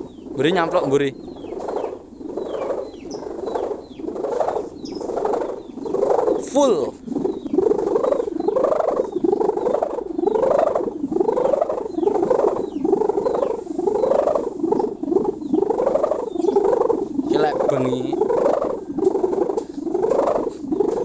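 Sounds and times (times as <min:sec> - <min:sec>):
kite hummer rattling drone: 0:00.0 - 0:21.0.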